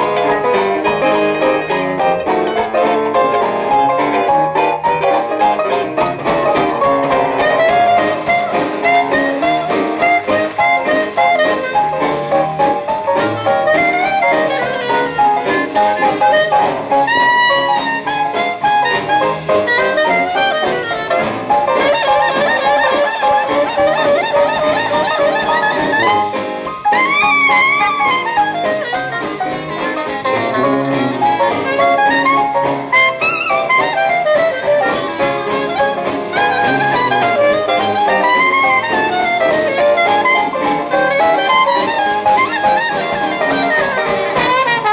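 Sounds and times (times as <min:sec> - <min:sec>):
jazz band playing: 0:00.0 - 0:44.9
clarinet lead: 0:06.1 - 0:44.9.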